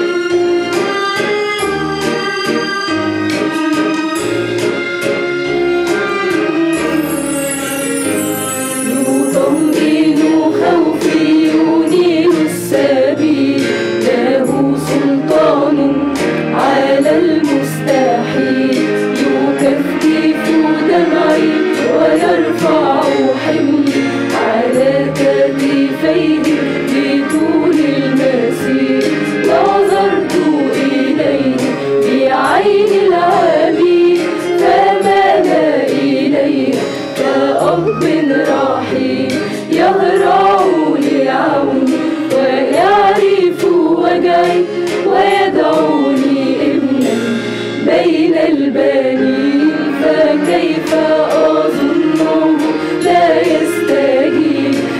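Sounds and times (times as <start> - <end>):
mixed choir singing a hymn: 8.2 - 54.9.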